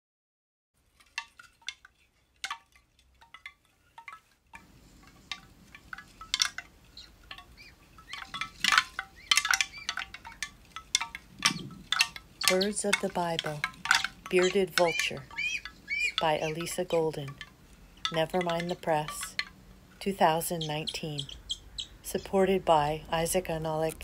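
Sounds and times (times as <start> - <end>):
wind chimes tinkling: 0.9 - 24.0.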